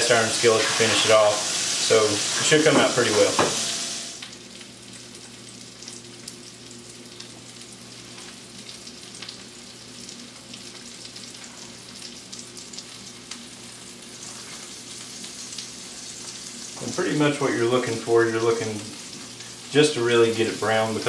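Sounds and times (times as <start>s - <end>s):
meat frying with pops and crackles: 0.0s - 21.0s.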